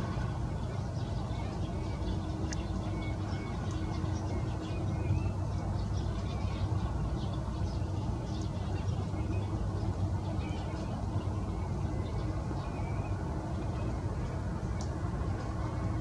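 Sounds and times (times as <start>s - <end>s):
faint hum: 0.0s - 16.0s
low outdoor rumble: 0.0s - 16.0s.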